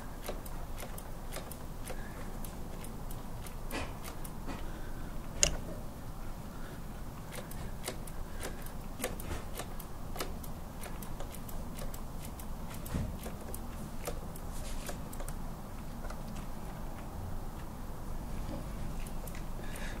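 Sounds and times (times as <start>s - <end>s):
light clicks and ticks: 0.0s - 5.7s, 7.2s - 17.8s, 19.0s - 20.0s.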